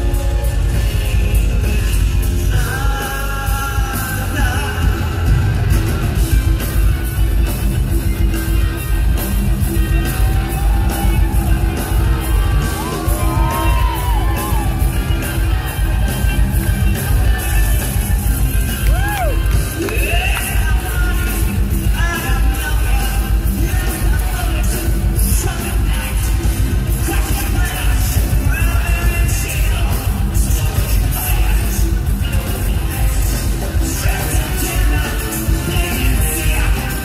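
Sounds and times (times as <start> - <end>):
person singing: 0.0 - 6.3, 9.9 - 37.0
live heavy metal band: 0.0 - 37.0.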